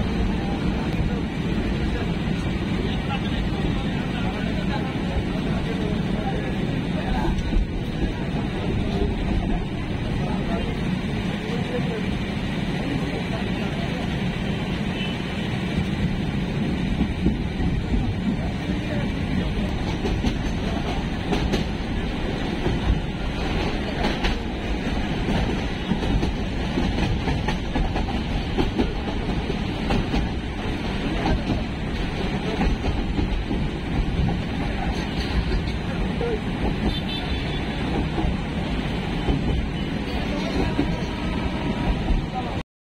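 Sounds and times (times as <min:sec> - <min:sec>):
train wheels rumbling and rattling: 0:00.0 - 0:42.6.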